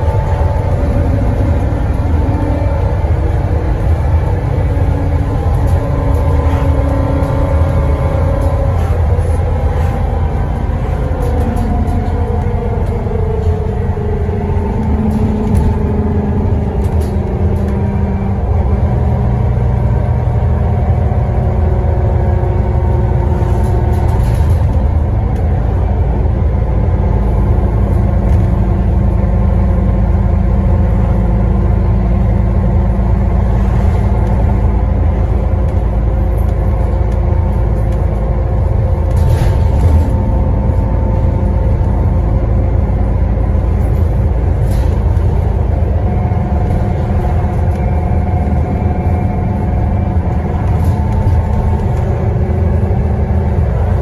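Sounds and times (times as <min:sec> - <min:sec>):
bus diesel engine: 0:00.0 - 0:54.0
road rumble: 0:00.0 - 0:54.0.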